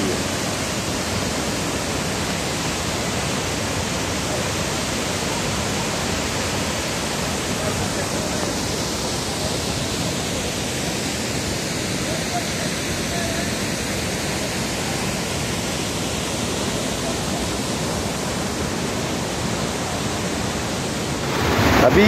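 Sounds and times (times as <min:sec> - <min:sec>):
waterfall rushing onto rocks: 0:00.0 - 0:22.0.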